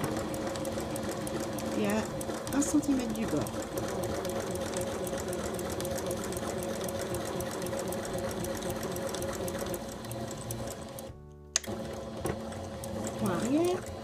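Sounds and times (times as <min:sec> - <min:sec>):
sewing machine running: 0:00.0 - 0:14.0.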